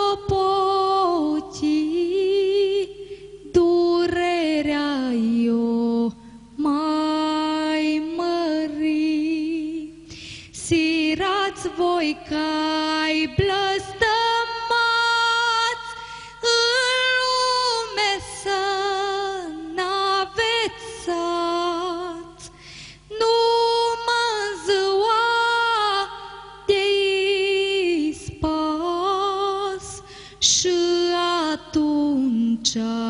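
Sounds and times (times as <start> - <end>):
woman singing unaccompanied: 0.0 - 33.0.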